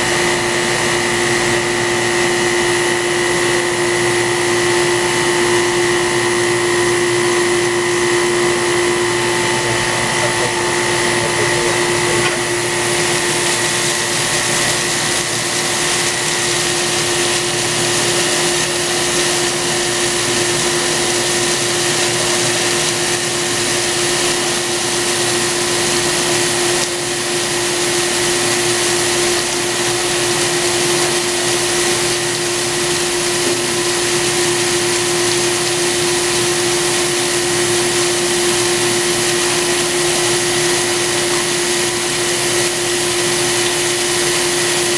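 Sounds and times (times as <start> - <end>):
coolant splashing: 0.0 - 44.9
machine hum: 0.0 - 44.9.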